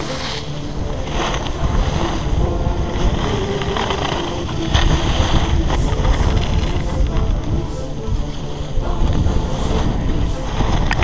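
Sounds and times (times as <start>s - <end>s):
skis scraping on snow: 0.0s - 11.0s
wind over microphone: 0.0s - 11.0s.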